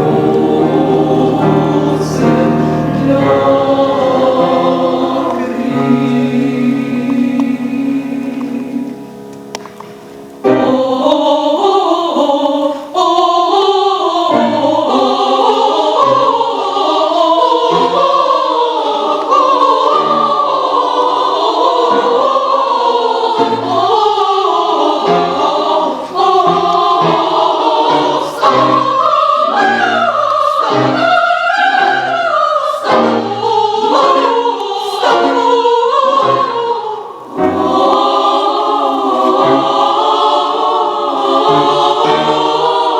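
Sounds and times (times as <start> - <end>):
women's choir singing: 0.0 - 42.9.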